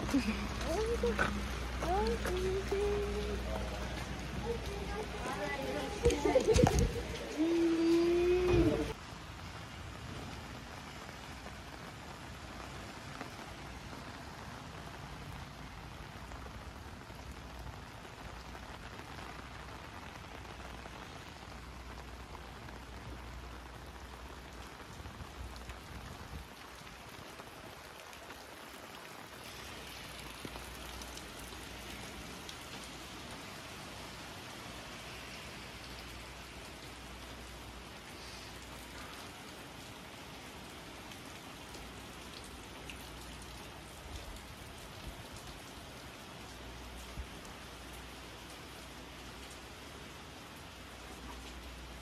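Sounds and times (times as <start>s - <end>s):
rain falling on pavement: 0.0s - 52.0s.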